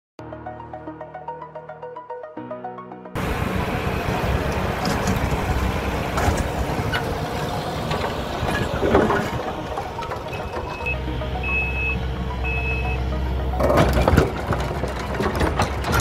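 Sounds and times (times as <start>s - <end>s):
tiller clanks and rattles: 3.2s - 16.0s
tractor engine rumble: 3.2s - 16.0s.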